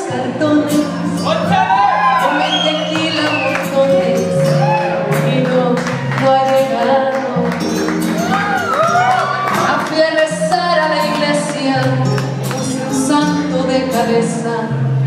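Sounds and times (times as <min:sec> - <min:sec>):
backing music over speakers: 0:00.0 - 0:15.0.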